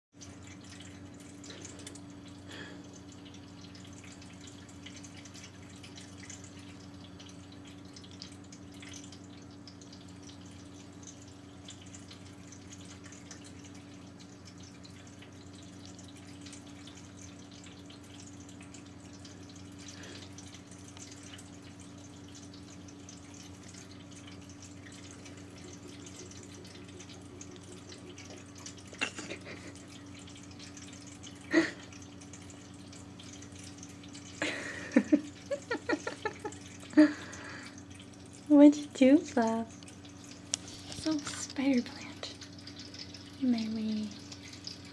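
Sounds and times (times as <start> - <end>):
electric pump hum: 0.2 - 44.9
water trickling into bowl: 0.2 - 44.9.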